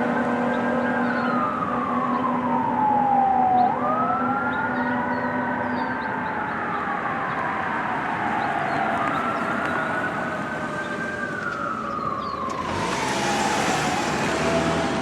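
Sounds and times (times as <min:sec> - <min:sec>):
fire truck siren wailing: 0:00.0 - 0:15.0.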